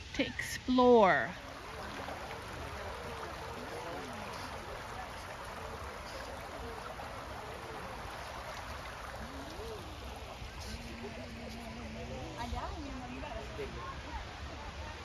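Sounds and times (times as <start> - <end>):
distant voices: 1.3 - 15.0.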